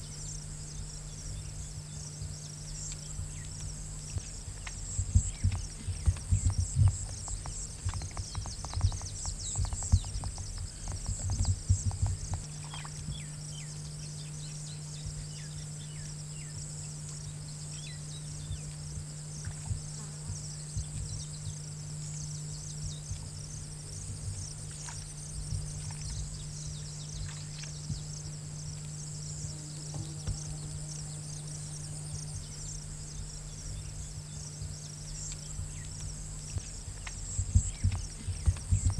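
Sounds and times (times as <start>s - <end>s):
constant low hum: 0.0s - 38.9s
insects chirping chorus: 0.0s - 38.9s.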